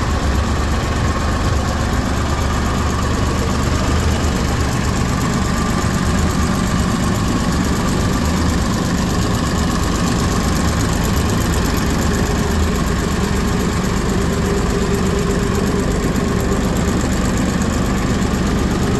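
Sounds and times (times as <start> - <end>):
diesel generator running: 0.0 - 18.9.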